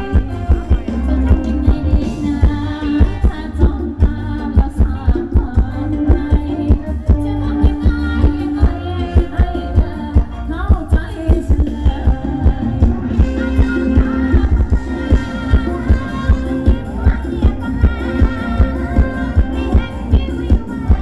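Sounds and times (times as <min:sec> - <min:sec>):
live dance band music: 0:00.0 - 0:21.0.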